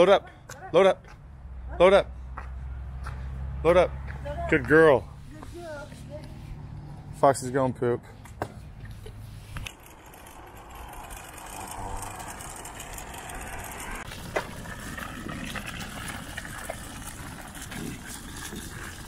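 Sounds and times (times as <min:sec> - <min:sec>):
wheels rolling on pavement: 0:02.4 - 0:19.0.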